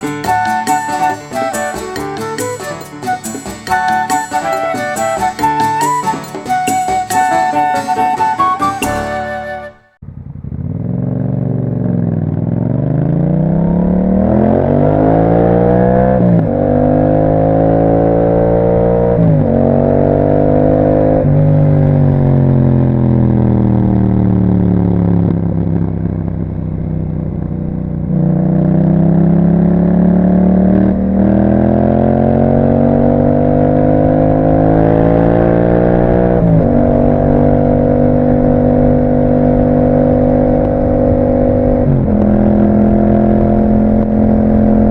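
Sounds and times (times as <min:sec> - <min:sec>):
motorcycle engine accelerating: 0:08.8 - 0:44.9.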